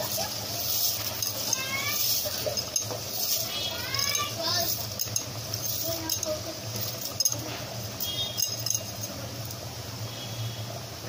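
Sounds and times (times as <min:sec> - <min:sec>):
dry lentils rattling into a pot: 0:00.0 - 0:09.7.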